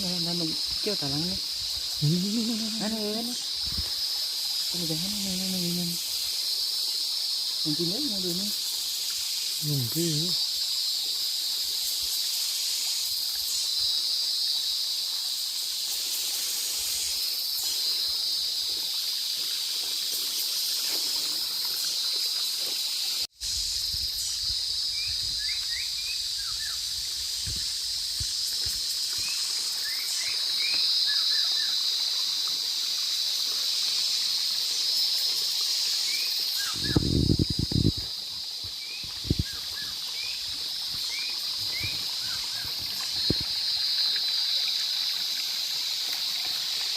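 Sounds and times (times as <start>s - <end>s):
cicadas and crickets droning: 0.0s - 46.9s.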